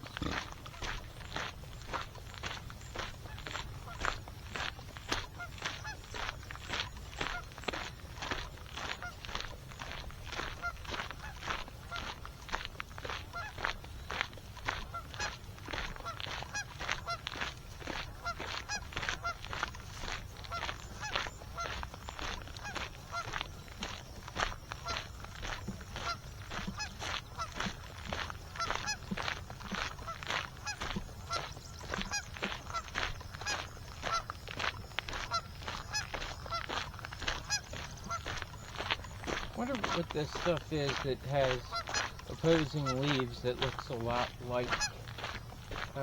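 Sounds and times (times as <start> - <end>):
geese honking: 0.0 - 12.3, 13.3 - 46.0.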